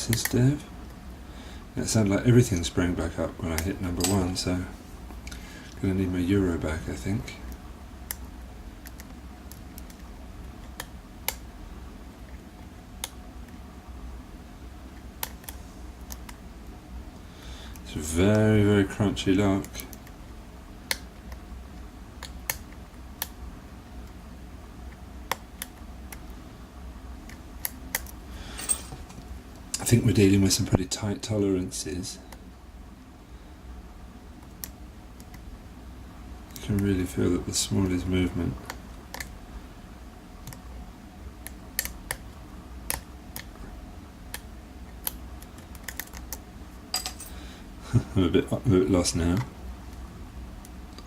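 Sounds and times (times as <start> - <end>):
faint low hum: 0.0 - 51.0.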